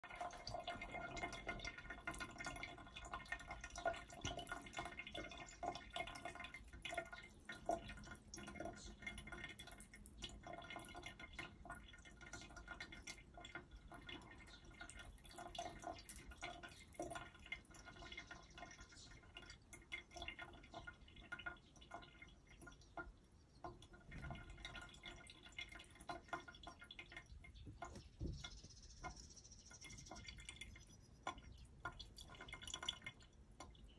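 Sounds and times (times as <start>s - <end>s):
cat drinking with small splashes: 0.0s - 28.0s, 29.0s - 33.9s
water trickling from a faucet: 0.0s - 33.9s.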